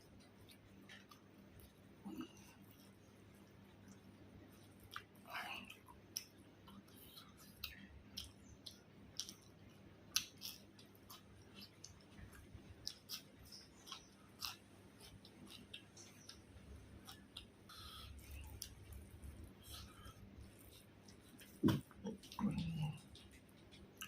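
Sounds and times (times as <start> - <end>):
mouth chewing food: 0.0 - 24.0.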